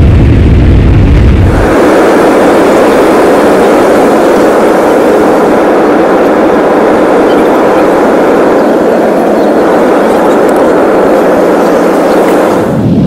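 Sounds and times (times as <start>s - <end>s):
jet cabin engine and airflow noise: 0.0s - 13.0s.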